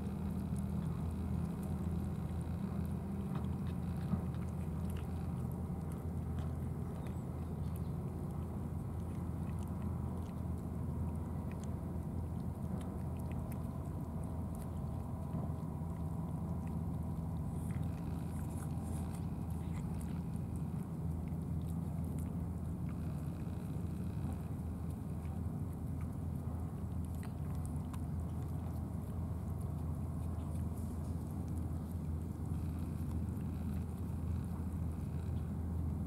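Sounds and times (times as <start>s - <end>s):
cats chewing food: 0.0s - 36.0s
steady low rumble: 0.0s - 36.0s.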